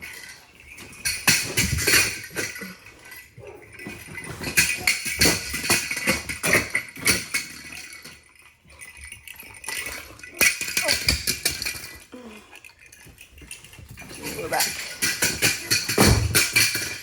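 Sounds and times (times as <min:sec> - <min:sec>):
jingle bell toy jingling: 0:00.0 - 0:17.0.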